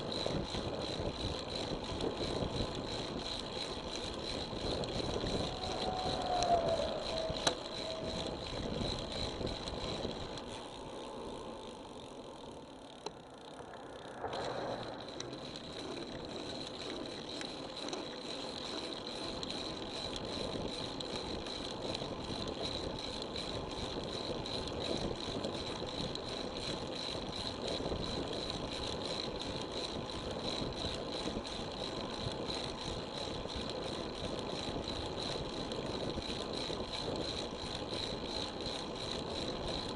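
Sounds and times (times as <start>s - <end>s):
constant high whine: 0.0s - 39.9s
wind and road noise: 0.0s - 39.9s.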